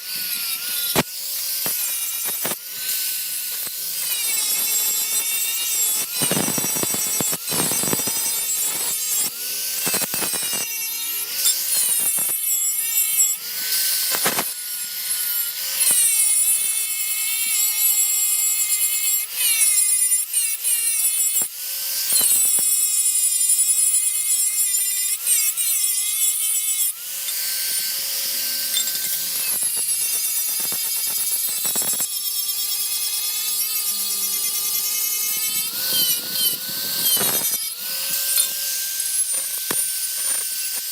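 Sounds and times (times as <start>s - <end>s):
power tool grinding metal: 0.0s - 40.9s.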